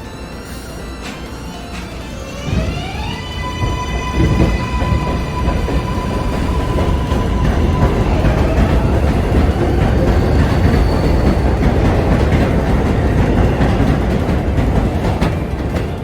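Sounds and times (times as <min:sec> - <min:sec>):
subway train rumbling on rails: 0:00.0 - 0:16.0.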